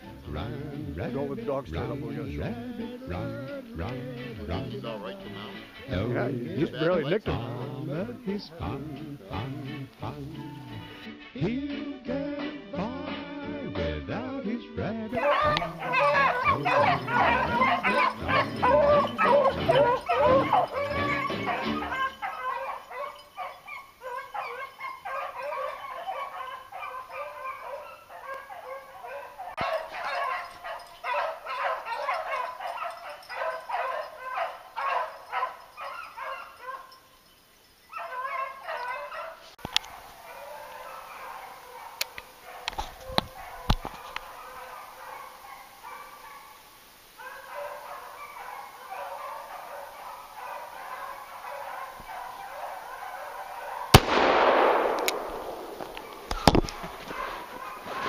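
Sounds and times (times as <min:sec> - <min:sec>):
hounds baying: 0:00.0 - 0:11.1, 0:15.1 - 0:58.0.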